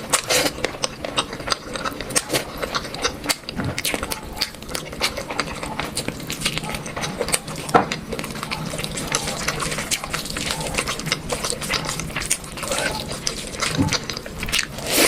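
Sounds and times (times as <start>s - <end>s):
person chewing wetly: 0.0s - 15.0s.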